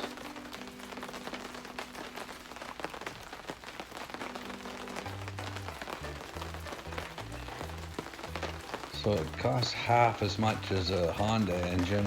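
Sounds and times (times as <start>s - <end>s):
rain pattering on a tarp: 0.0s - 12.0s.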